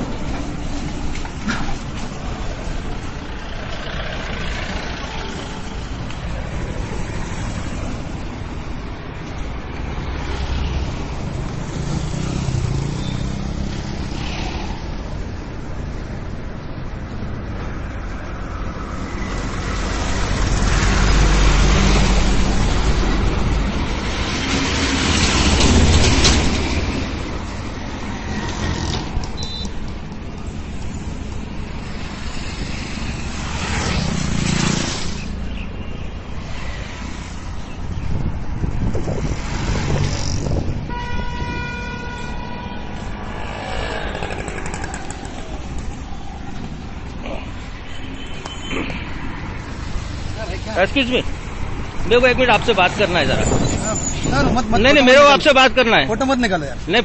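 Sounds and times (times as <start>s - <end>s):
steady traffic background: 0.0s - 57.0s
vehicles passing: 0.0s - 57.0s.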